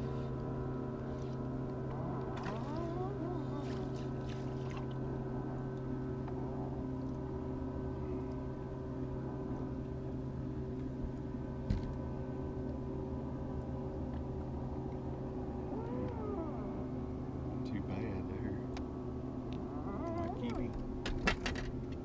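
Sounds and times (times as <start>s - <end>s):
electric trolling motor humming: 0.0s - 22.0s.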